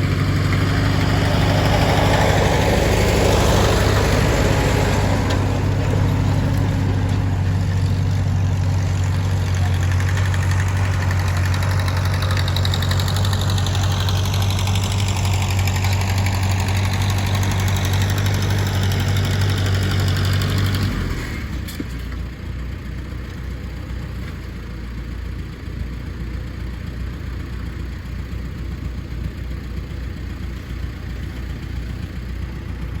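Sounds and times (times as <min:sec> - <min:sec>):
tractor engine droning: 0:00.0 - 0:33.0.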